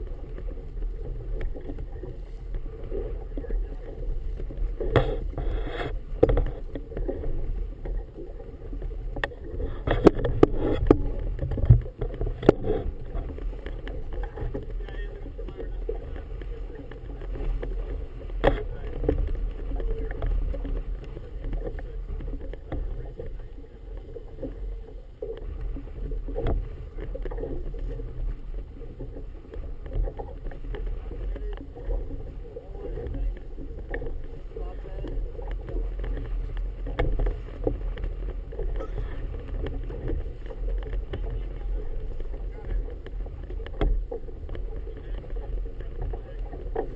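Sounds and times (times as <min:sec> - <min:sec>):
water slapping against boat hull: 0:00.0 - 0:46.9
wind rumble on microphone: 0:00.0 - 0:46.9.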